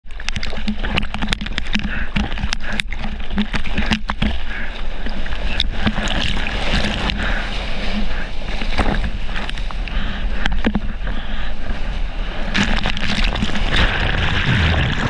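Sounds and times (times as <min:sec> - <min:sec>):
seawater splashing and rushing: 0:00.0 - 0:15.0.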